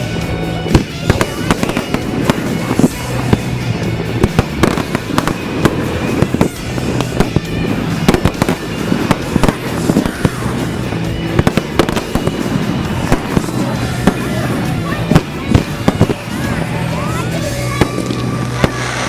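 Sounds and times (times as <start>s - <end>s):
firework bursts and crackling: 0.0s - 19.0s
music playing: 0.0s - 19.0s.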